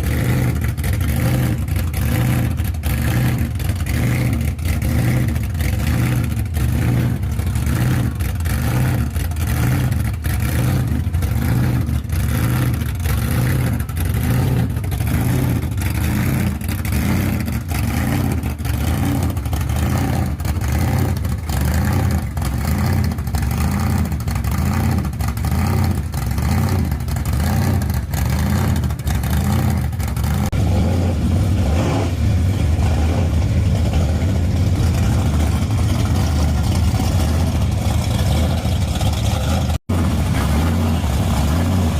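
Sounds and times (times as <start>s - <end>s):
car engines rumbling: 0.0s - 41.9s
cars passing by: 0.0s - 41.9s.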